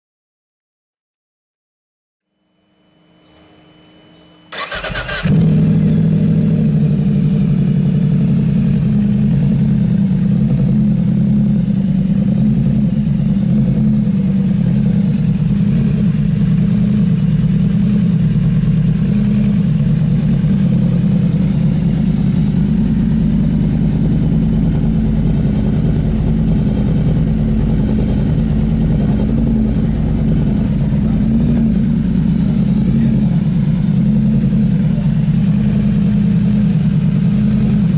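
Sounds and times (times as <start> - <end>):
motorcycle engine starting and idling: 4.5 - 37.9.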